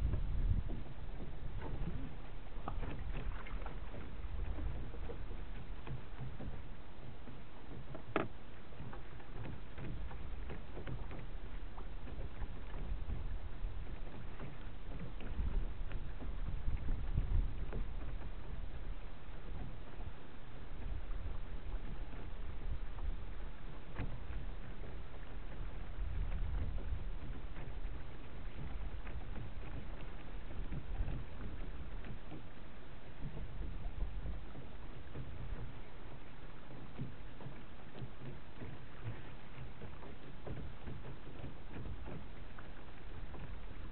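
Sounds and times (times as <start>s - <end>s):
water lapping against boat hull: 0.0s - 43.9s
wind rumble on microphone: 0.0s - 43.9s.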